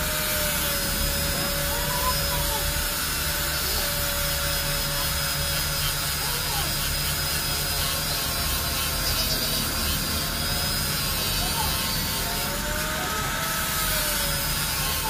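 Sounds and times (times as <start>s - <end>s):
handheld power tool whirring: 0.0s - 15.0s.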